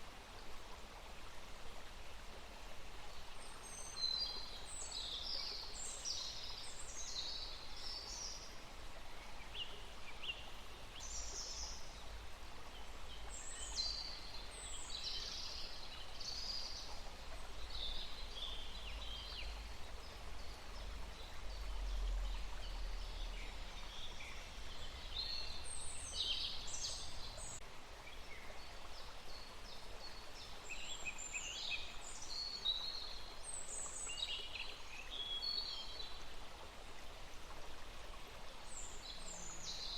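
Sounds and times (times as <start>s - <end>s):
steady outdoor hiss: 0.0s - 39.9s
songbirds chirping: 3.0s - 39.9s.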